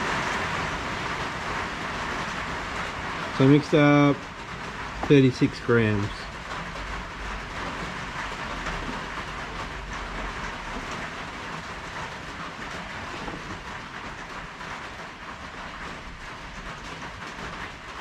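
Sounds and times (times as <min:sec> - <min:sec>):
rain on a tin roof: 0:00.0 - 0:18.0.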